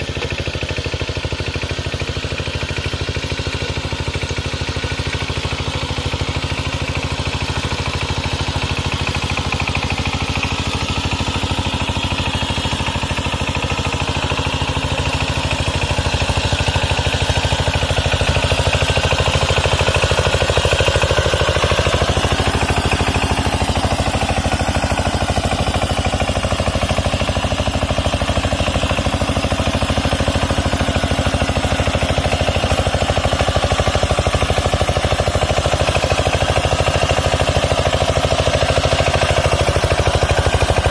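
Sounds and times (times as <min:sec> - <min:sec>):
diesel tiller engine running: 0:00.0 - 0:40.9.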